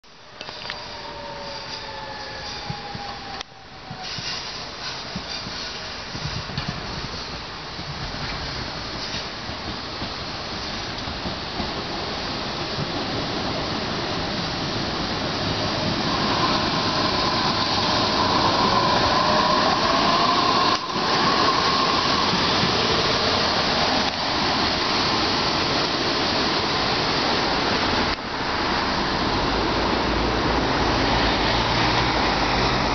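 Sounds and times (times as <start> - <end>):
tram rumbling along rails: 0.1 - 32.9.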